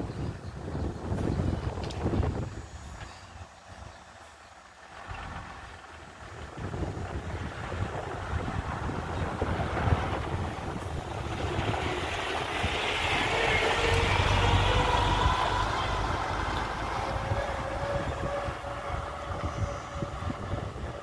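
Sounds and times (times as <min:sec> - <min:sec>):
heavy diesel engine droning: 0:01.0 - 0:21.0.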